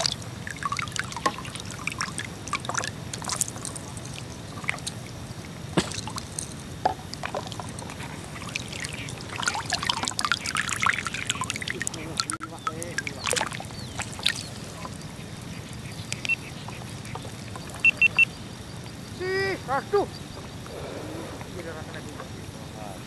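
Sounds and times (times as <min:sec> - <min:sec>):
small drips: 0:00.0 - 0:19.2
water trickling and splashing: 0:00.0 - 0:20.7.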